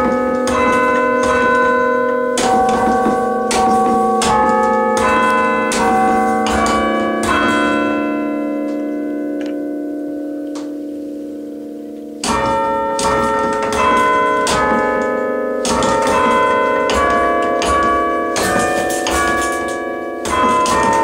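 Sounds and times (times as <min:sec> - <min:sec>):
tower bells playing a tune: 0:00.0 - 0:21.0.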